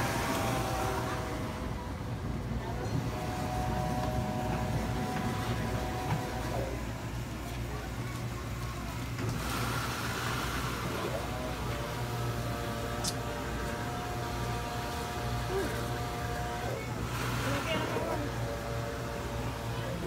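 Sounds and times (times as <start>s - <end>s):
machinery hum: 0.0s - 20.0s.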